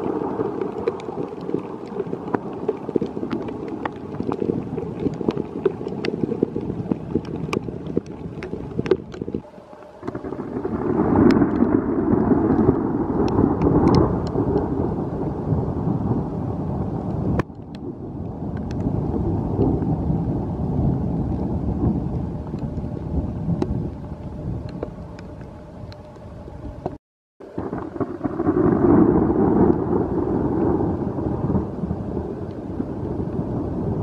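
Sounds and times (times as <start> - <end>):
low rolling thunder: 0.0 - 26.0, 27.4 - 34.0
raindrops ticking on camera: 0.0 - 34.0
steady rain: 0.0 - 34.0
wind: 0.0 - 34.0.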